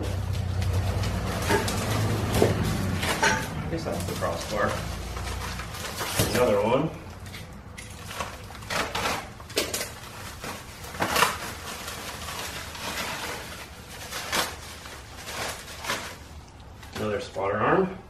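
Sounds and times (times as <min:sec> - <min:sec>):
plastic wrapping crinkling: 0:00.0 - 0:17.2.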